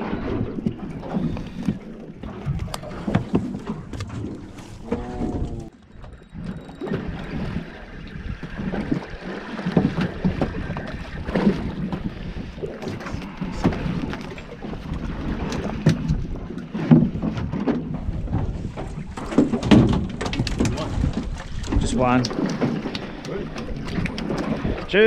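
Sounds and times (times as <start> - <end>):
boat rumble: 0.0 - 25.0
wind buffeting microphone: 0.0 - 25.0.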